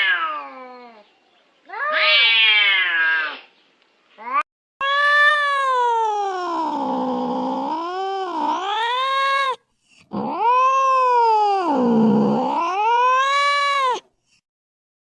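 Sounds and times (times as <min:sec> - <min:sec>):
cat yowling: 0:00.0 - 0:01.0, 0:01.7 - 0:03.5, 0:04.2 - 0:14.1.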